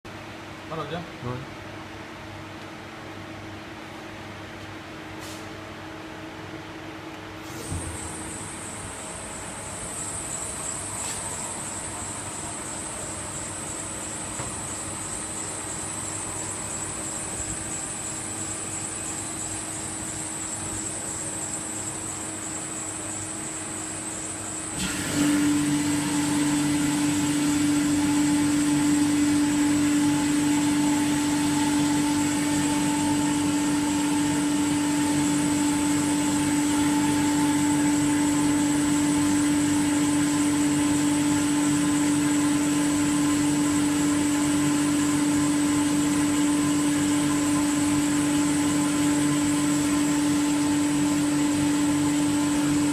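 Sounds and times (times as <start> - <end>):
machine humming with high whine: 5.7 - 52.9.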